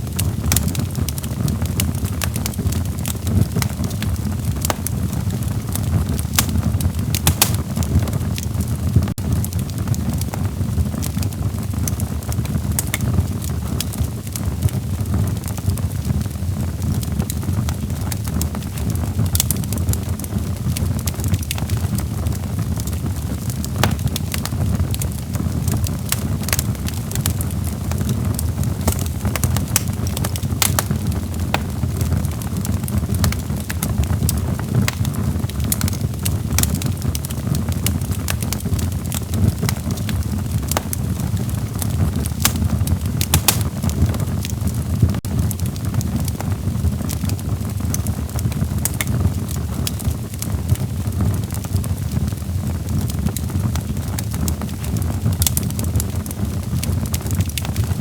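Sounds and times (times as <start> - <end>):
log fire crackling and popping: 0.0 - 58.0.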